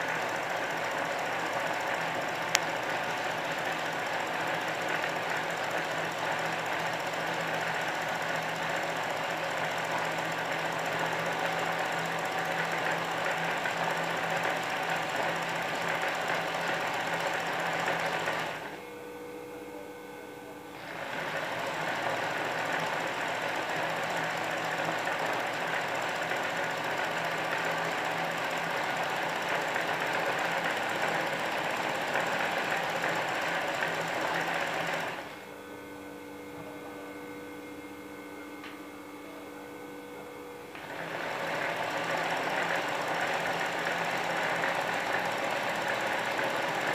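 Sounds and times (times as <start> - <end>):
embroidery machine stitching: 0.0 - 18.8, 20.7 - 35.4, 40.8 - 46.9
machine hum: 0.0 - 46.9.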